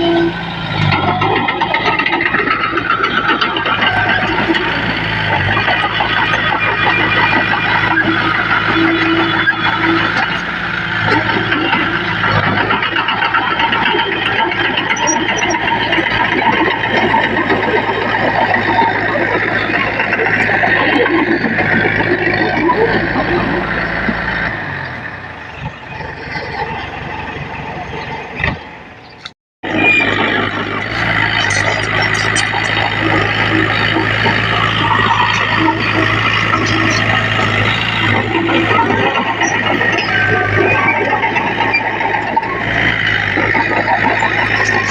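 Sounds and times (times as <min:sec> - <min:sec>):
diesel machinery running: 0:00.0 - 0:44.9.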